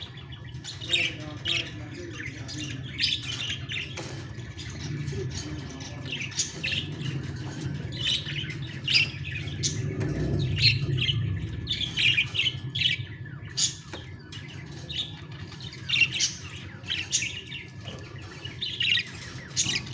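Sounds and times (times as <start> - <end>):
budgie chicks squawking: 0.0 - 19.9
steady low hum: 0.0 - 19.9.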